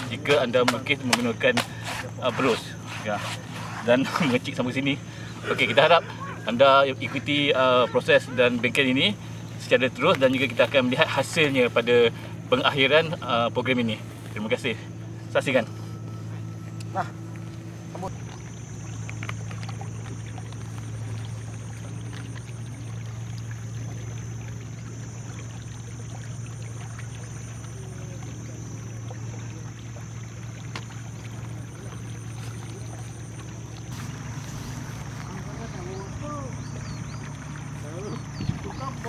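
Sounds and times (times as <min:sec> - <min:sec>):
low engine-like hum: 0:00.0 - 0:39.0.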